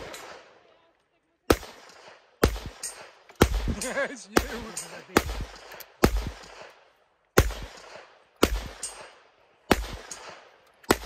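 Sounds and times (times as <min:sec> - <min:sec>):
gunshots with echo: 0:00.0 - 0:00.5, 0:01.5 - 0:06.8, 0:07.4 - 0:11.0.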